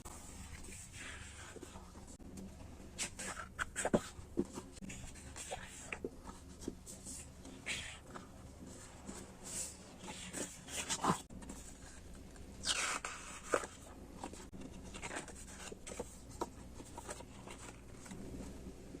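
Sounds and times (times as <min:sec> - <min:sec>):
packaging rustling and scraping: 0:03.0 - 0:18.7.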